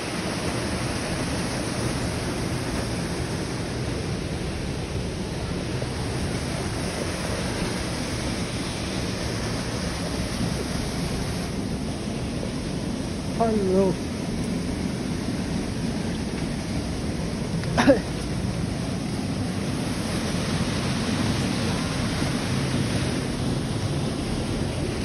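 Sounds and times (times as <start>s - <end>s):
water rushing from waterfall: 0.0s - 25.0s.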